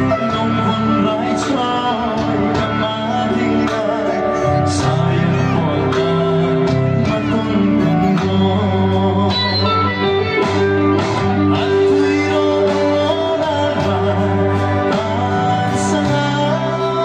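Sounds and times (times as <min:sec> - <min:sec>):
amplified backing music with beat: 0:00.0 - 0:17.0
man singing into a microphone: 0:00.0 - 0:17.0.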